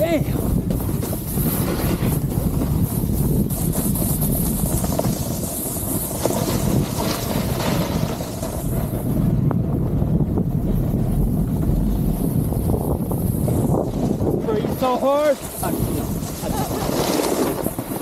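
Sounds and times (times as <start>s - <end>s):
snowboard scraping snow: 0.0s - 18.0s
wind noise on microphone: 0.0s - 18.0s.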